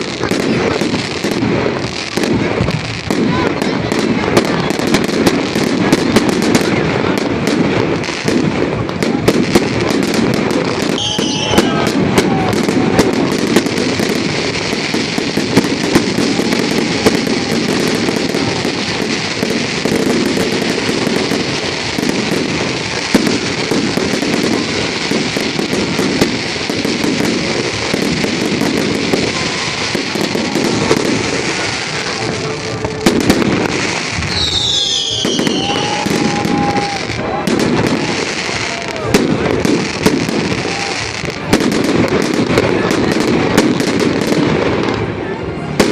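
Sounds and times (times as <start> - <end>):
fireworks bangs: 0.0 - 45.9
fireworks crackling and popping: 0.0 - 45.9.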